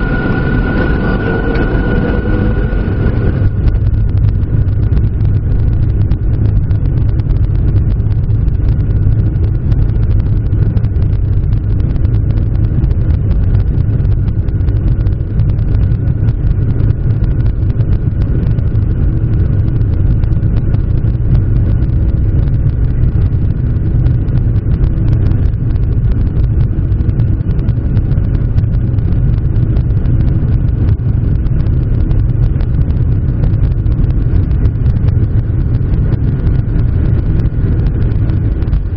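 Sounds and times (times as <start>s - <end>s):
jet engines rumbling in cabin: 0.0s - 38.9s
steady engine whine: 0.0s - 38.9s.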